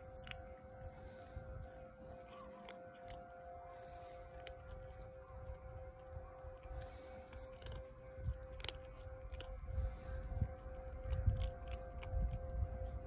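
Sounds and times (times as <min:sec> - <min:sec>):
cat crunching dry kibble: 0:00.0 - 0:13.0
faint steady hum: 0:00.0 - 0:13.0.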